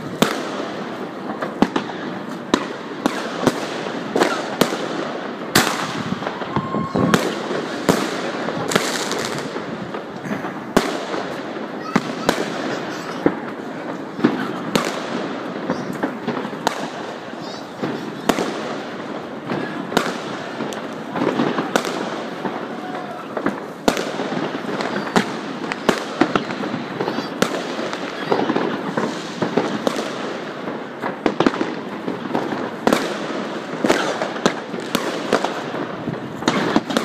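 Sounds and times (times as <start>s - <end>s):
distant fireworks crackling: 0.0s - 37.0s
firecracker bangs: 0.0s - 37.0s.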